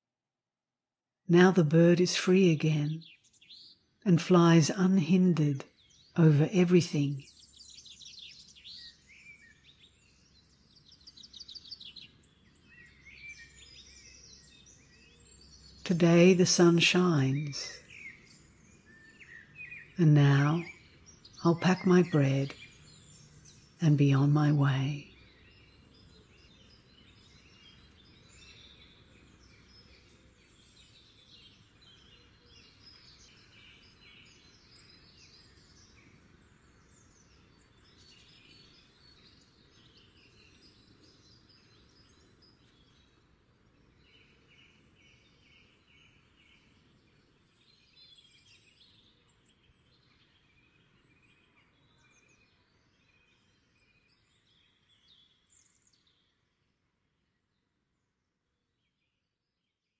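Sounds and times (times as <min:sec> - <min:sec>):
faint low background noise: 0:01.3 - 0:59.5
birds chirping and trilling: 0:01.5 - 0:57.7.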